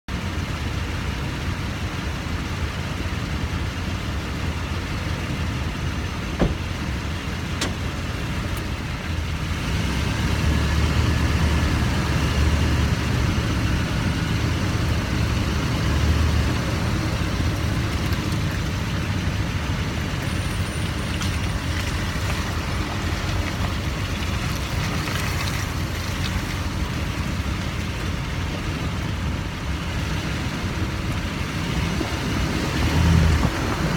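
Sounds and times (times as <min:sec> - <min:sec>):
truck engine low rumble: 0:00.1 - 0:33.9.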